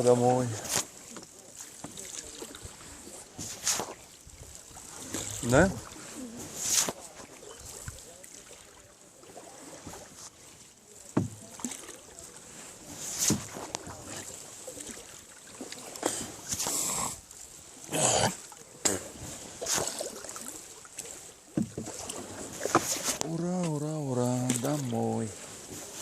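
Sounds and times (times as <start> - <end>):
background water: 0.0 - 26.0
oars dipping and splashing: 0.0 - 26.0.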